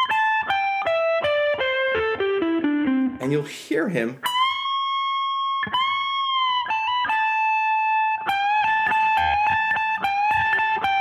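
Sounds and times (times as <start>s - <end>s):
electric guitar lead lick: 0.0s - 11.0s.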